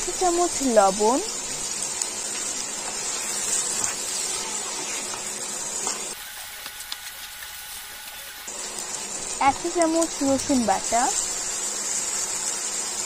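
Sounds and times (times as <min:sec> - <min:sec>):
potatoes and onions sizzling in oil: 0:00.0 - 0:13.0.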